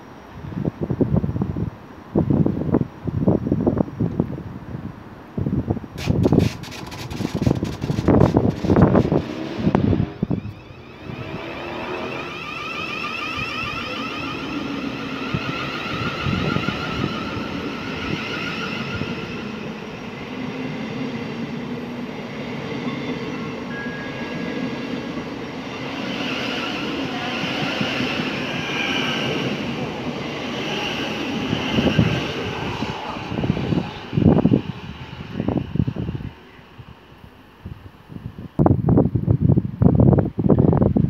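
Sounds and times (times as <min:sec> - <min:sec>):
train wheel and rail rumble: 0:00.0 - 0:41.0.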